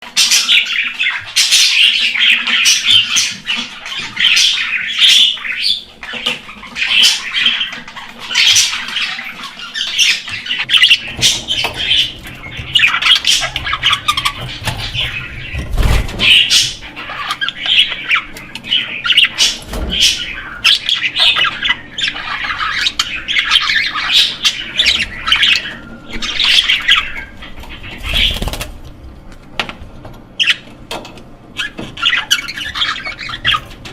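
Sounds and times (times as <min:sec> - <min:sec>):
budgerigars chattering and squawking: 0:00.0 - 0:29.0, 0:29.9 - 0:33.9
faint low hum: 0:00.2 - 0:33.9.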